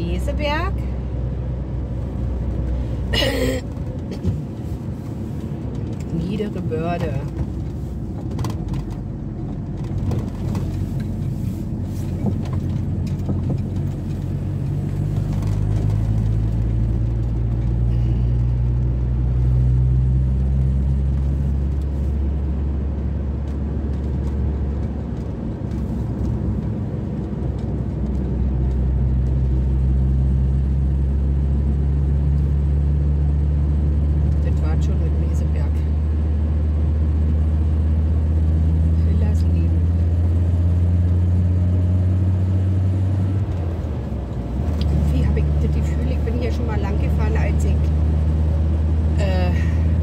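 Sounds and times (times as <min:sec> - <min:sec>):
road noise: 0:00.0 - 0:50.0
van engine: 0:00.0 - 0:50.0.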